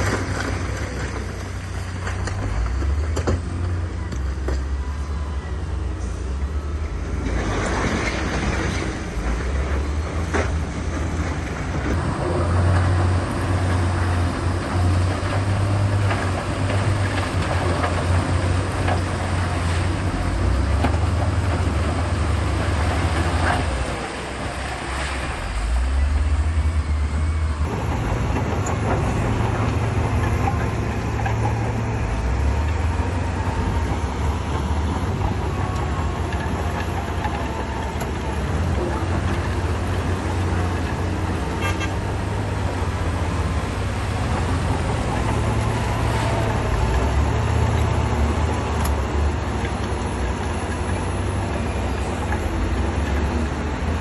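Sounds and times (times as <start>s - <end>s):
heavy machinery diesel engines rumbling: 0.0s - 54.0s.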